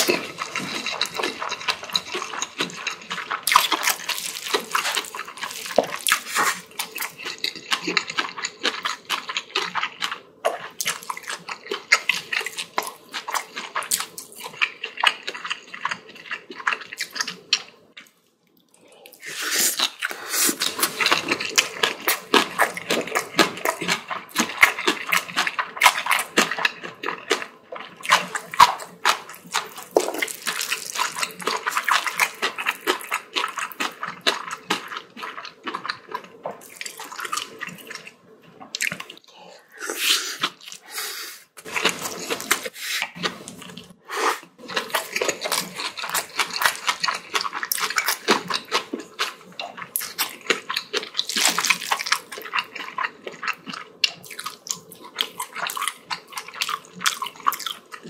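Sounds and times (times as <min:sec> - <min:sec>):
wet chewing and smacking: 0:00.0 - 0:19.2, 0:19.8 - 0:39.3, 0:41.6 - 0:58.0.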